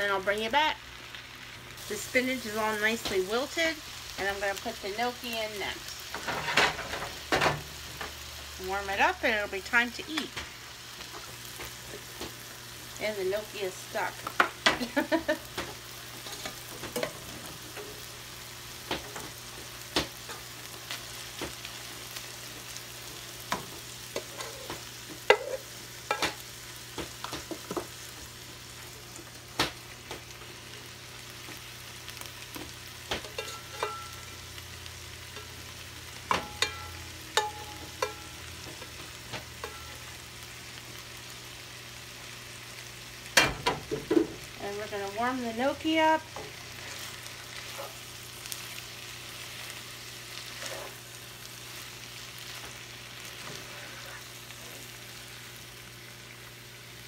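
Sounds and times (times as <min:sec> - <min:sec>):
food sizzling in a skillet: 0:00.0 - 0:57.0.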